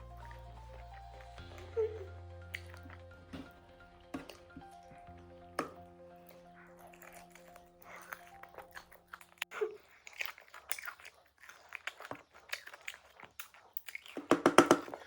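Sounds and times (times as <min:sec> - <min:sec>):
loud crunchy chews: 0:00.0 - 0:15.0
person chewing and biting: 0:00.2 - 0:15.0.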